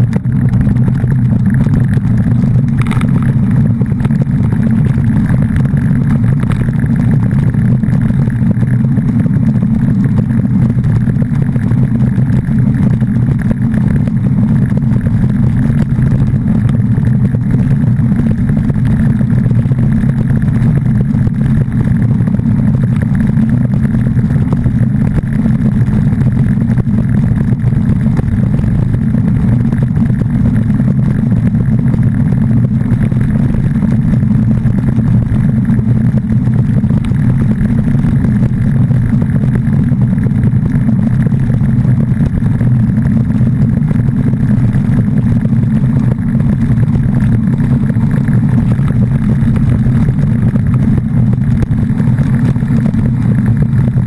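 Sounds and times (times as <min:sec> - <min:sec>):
vehicle rumble and road noise: 0:00.0 - 0:54.0.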